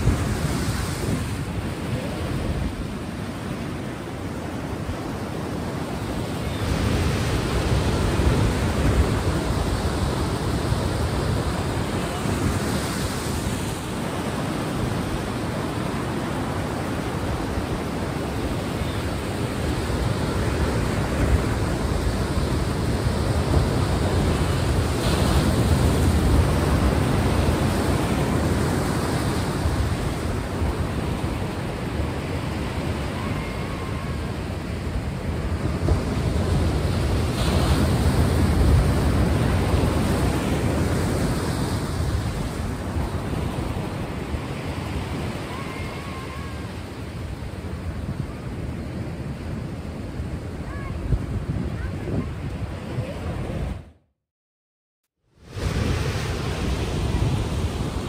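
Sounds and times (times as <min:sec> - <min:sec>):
waves washing on shore: 0:00.0 - 0:53.9, 0:55.4 - 0:58.0.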